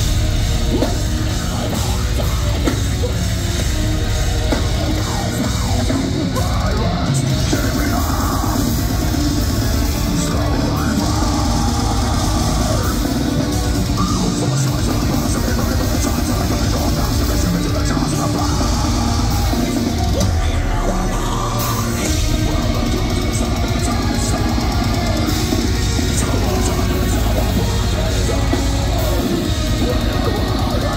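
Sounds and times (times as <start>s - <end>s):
heavy metal band playing live: 0.0s - 30.9s.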